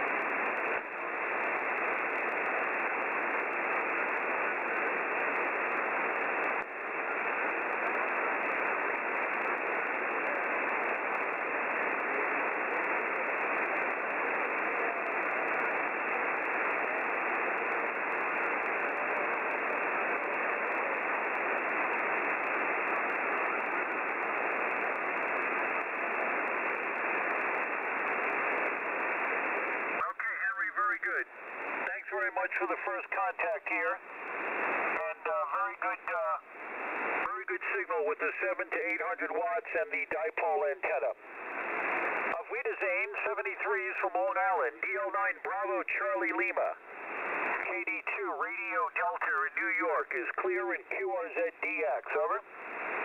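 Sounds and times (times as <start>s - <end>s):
shortwave radio hiss: 0.0s - 53.0s.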